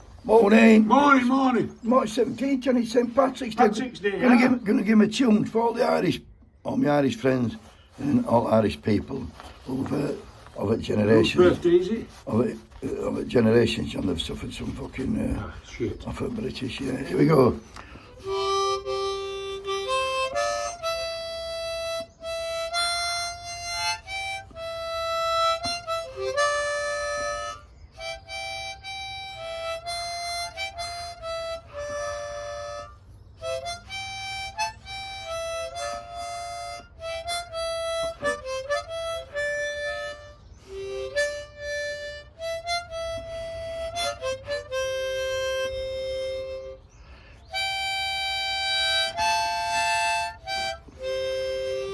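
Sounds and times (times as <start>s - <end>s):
harmonica melody: 0.0s - 51.9s.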